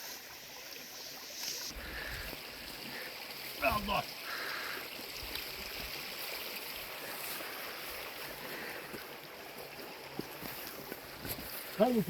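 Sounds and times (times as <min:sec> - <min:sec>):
river rushing: 0:01.8 - 0:12.0.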